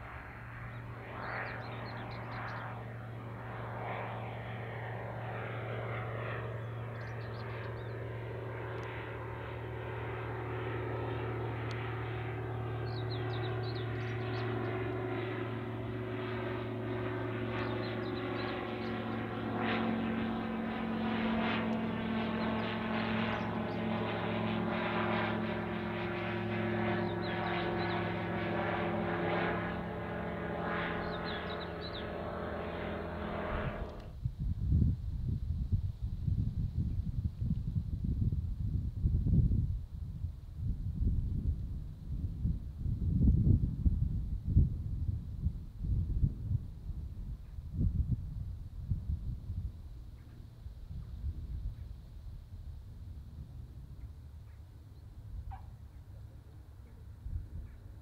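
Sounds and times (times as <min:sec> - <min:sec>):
propeller plane flying overhead: 0:00.0 - 0:58.0.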